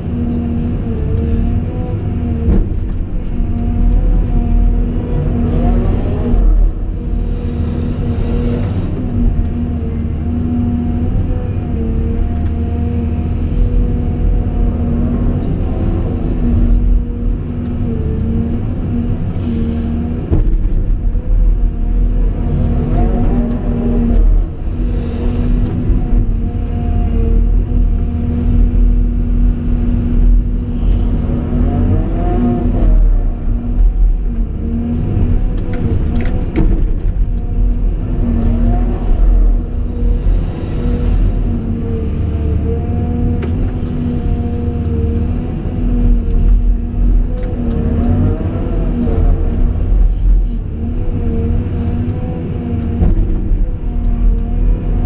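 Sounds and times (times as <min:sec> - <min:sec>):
excavator engine rumble: 0:00.0 - 0:55.0.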